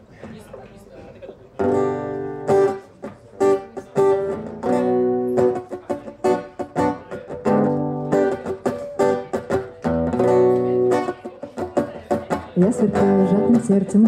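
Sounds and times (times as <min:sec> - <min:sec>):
guitar strummed: 0:01.6 - 0:14.0.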